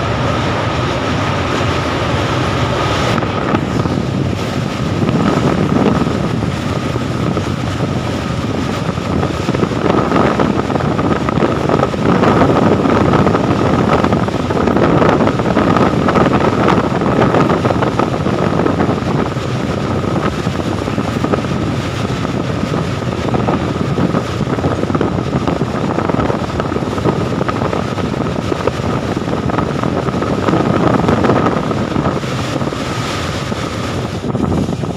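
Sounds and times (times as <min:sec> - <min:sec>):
steady high whine: 0:00.0 - 0:34.9
train rumbling across a bridge: 0:00.0 - 0:34.9
wind buffeting microphone: 0:00.0 - 0:34.9.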